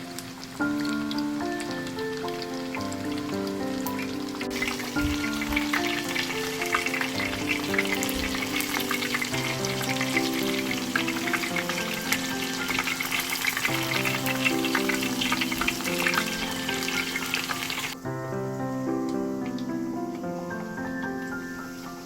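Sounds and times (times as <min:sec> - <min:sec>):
food sizzling in a pan: 0:00.0 - 0:22.0
soft background music: 0:00.0 - 0:22.0.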